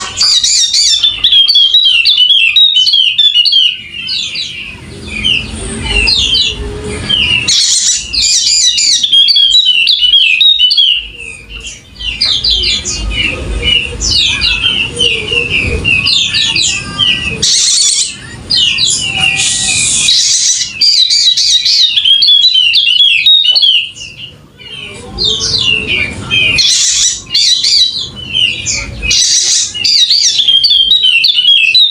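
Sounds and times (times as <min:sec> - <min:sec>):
bird chattering song: 0:00.0 - 0:31.9.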